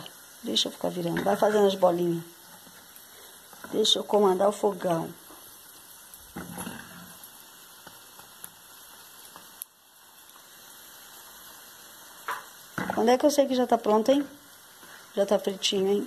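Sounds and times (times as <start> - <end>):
dough deep-frying in oil: 0.0 - 16.0.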